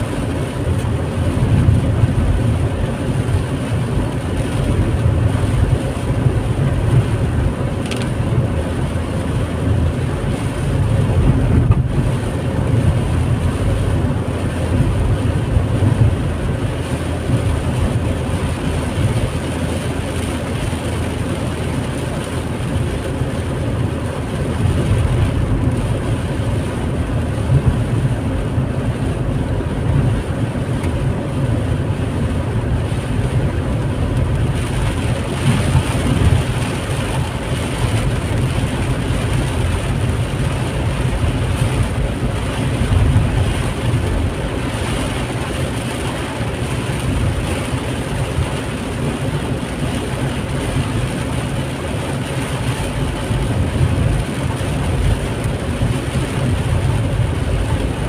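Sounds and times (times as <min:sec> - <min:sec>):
car road rumble: 0:00.0 - 0:58.0
hiss of rain and spray: 0:00.0 - 0:58.0.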